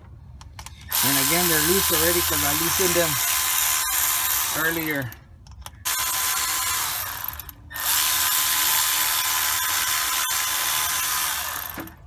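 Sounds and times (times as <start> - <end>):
cordless ratchet whirring: 0.5 - 12.0.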